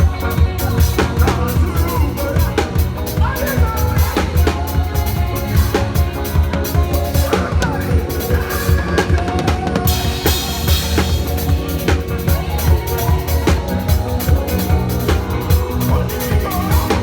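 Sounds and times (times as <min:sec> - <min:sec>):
sustained pitched instruments: 0:00.0 - 0:17.0.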